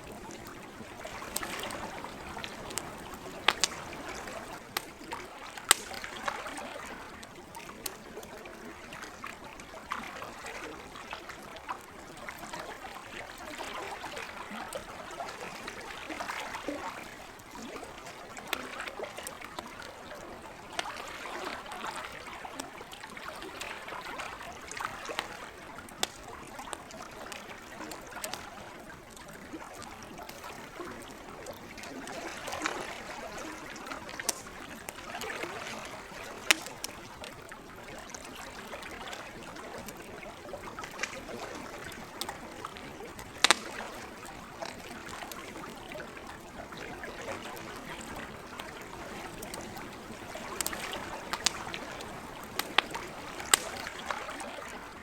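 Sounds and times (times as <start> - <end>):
campfire crackling and popping: 0.0 - 55.0
water lapping and trickling: 0.0 - 55.0.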